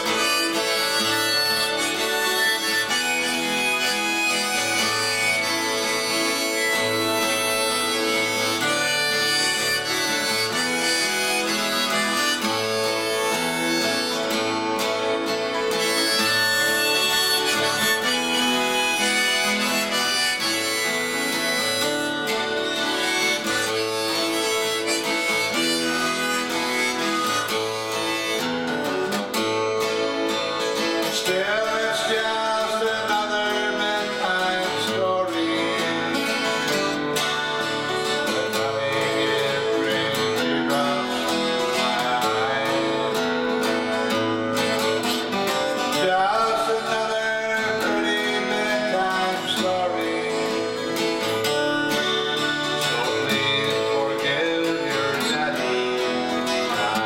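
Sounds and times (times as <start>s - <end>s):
harmonica playing: 0.0s - 57.0s
strummed acoustic guitar: 0.0s - 57.0s.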